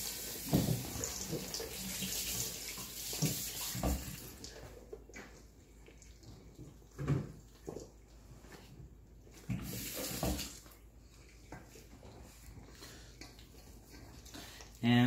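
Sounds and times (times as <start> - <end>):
wet squelching stirring: 0.0 - 14.8.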